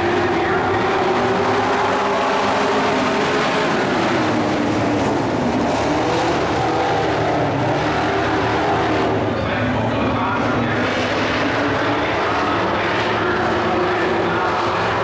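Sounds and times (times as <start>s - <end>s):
race truck engines roaring: 0.0s - 15.0s.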